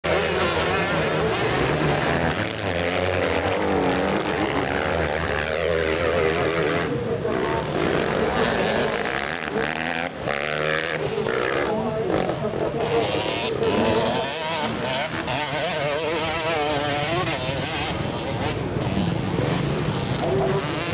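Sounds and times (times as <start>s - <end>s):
motocross bike engines revving: 0.0s - 20.9s.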